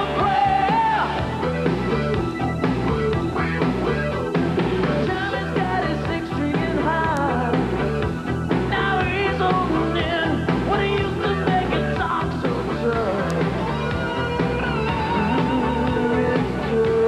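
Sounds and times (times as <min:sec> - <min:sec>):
rock song with singer and band: 0:00.0 - 0:17.0.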